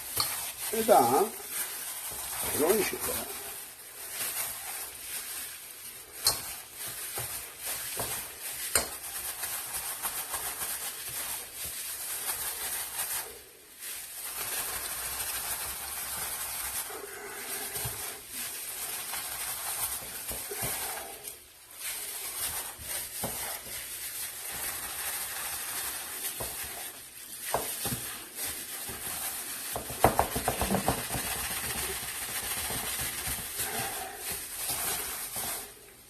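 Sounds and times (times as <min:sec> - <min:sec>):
food sizzling in frying pan: 0:00.0 - 0:36.0.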